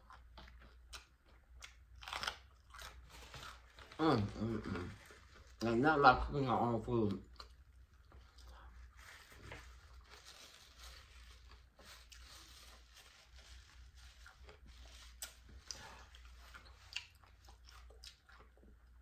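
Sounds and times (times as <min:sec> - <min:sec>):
chewing and wet mouth sounds: 0:00.0 - 0:05.7, 0:06.9 - 0:10.2, 0:10.9 - 0:19.0.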